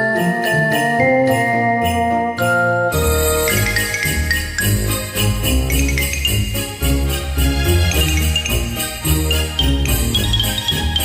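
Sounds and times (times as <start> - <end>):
christmas music: 0.0 - 11.0
sleigh bells ringing: 0.0 - 11.0.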